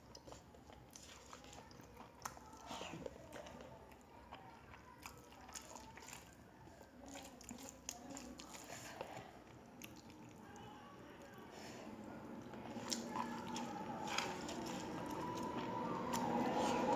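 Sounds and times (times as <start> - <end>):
wet chewing clicks and smacks: 0.0 - 10.7, 12.4 - 16.9.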